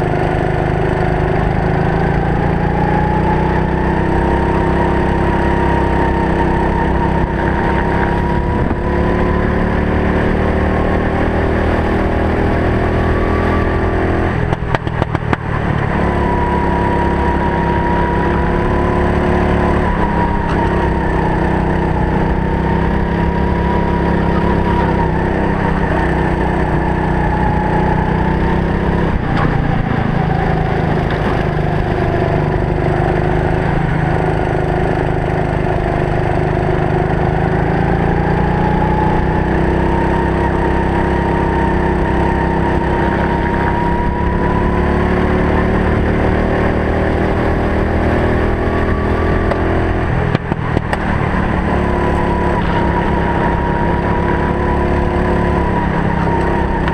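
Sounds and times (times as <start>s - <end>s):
engine spluttering: 0.0s - 56.9s
kart engine revving: 0.0s - 56.9s.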